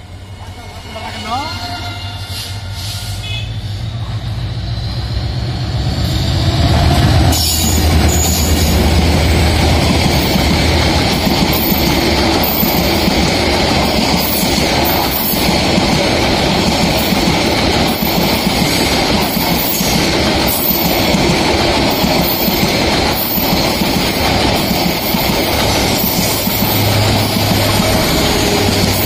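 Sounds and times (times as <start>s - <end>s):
steel wheels rumbling on rails: 0.0s - 29.0s.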